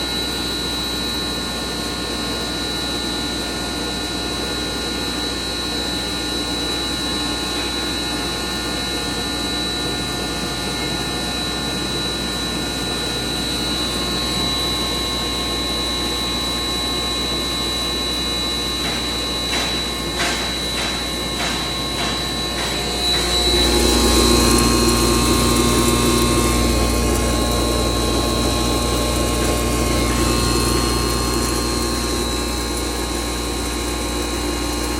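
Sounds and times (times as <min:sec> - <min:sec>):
flour grinder motor humming: 0:00.0 - 0:34.9.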